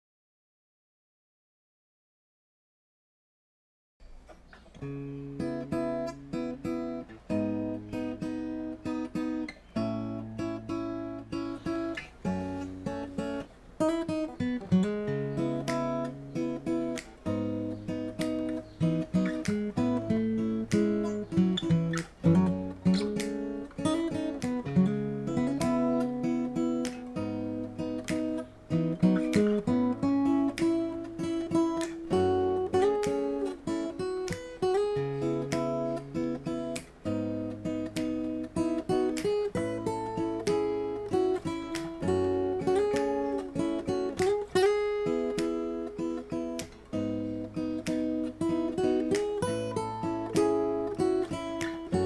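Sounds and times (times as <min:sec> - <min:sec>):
solo acoustic guitar: 0:04.0 - 0:52.0.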